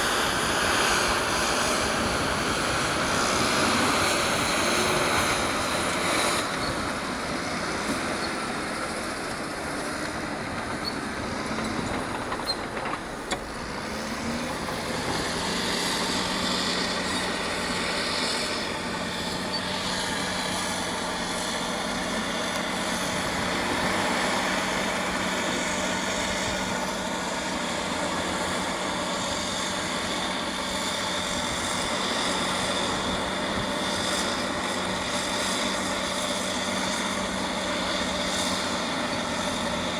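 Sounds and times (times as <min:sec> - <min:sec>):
diesel engine running under load: 0:00.0 - 0:39.9
steel tracks grinding and clattering: 0:00.0 - 0:39.9.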